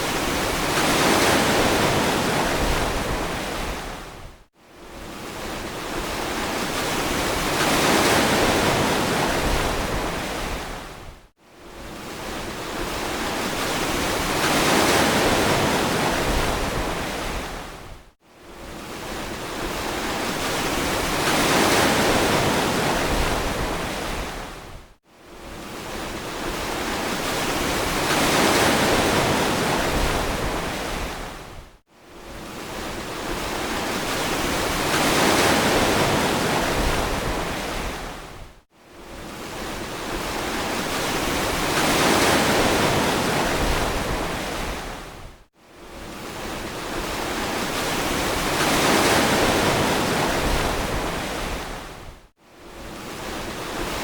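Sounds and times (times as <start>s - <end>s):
ocean waves washing on beach: 0.0s - 54.0s.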